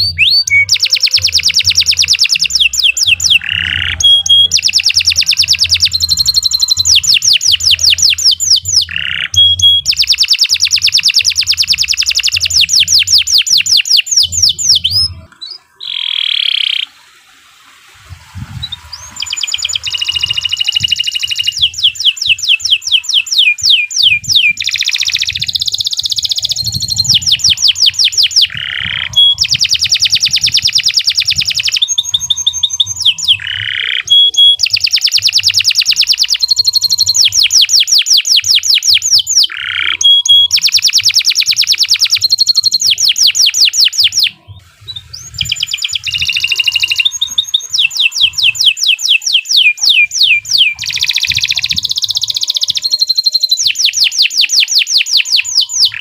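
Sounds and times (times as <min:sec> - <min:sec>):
canary singing trills: 0:00.0 - 0:17.0, 0:18.5 - 0:56.0.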